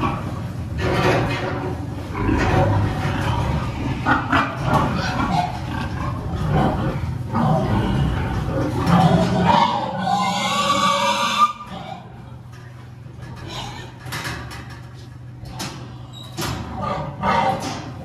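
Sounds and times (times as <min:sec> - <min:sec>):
pigs grunting and crying: 0:00.0 - 0:18.0.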